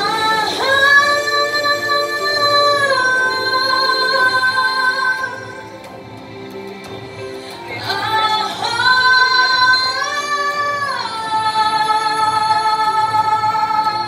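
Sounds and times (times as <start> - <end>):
women singing in harmony: 0.0 - 6.2, 7.0 - 14.0.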